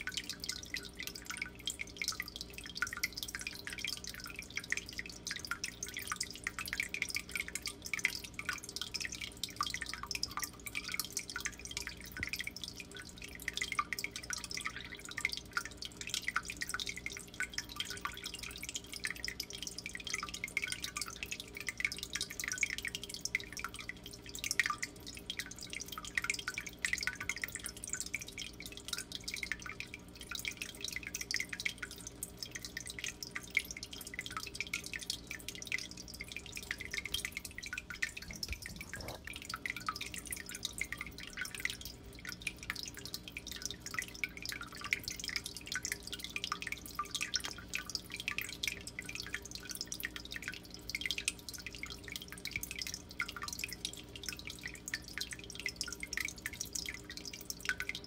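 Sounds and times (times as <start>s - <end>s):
water dripping and trickling: 0.0s - 58.0s.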